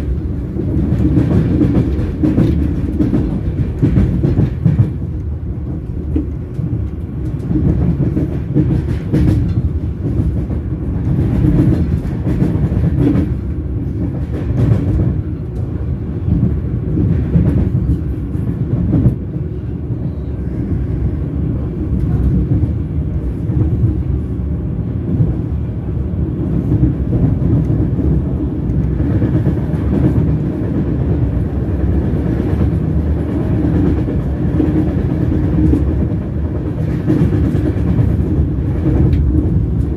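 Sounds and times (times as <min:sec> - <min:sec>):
rail clicks: 0:00.0 - 0:39.9
train wheels rolling on rails: 0:00.0 - 0:39.9.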